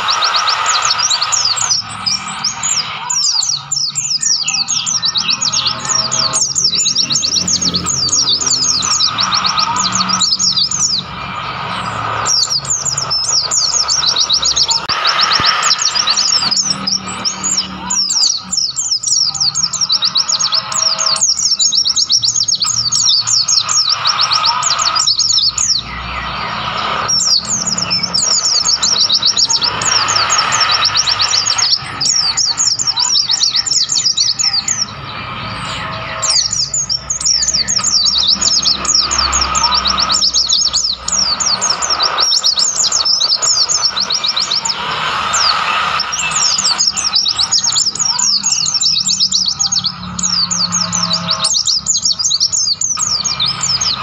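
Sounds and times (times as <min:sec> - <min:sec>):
birds chirping trills: 0:00.0 - 0:54.0.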